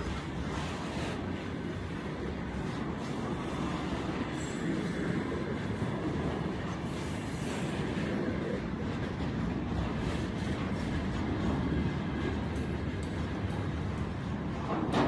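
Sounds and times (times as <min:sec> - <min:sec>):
freight train wheels rumbling on rails: 0:00.0 - 0:15.0.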